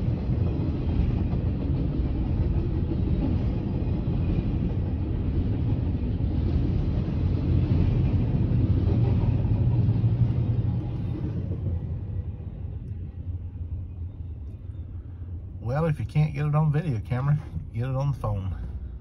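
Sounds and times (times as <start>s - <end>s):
passing freight train rumble: 0.0s - 19.0s.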